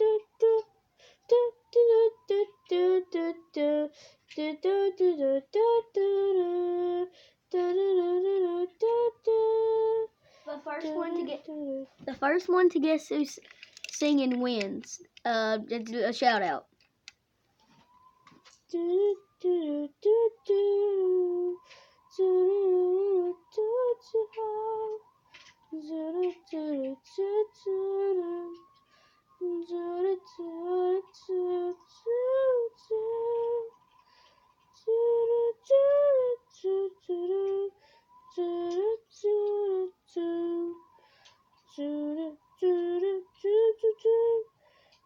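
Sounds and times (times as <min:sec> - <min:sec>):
person singing unaccompanied: 0:00.0 - 0:16.7, 0:18.4 - 0:28.8, 0:29.4 - 0:44.6.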